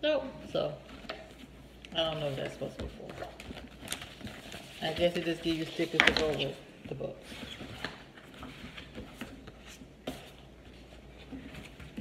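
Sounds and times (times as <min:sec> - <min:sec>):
paperback book rustling on table: 0:00.9 - 0:12.0.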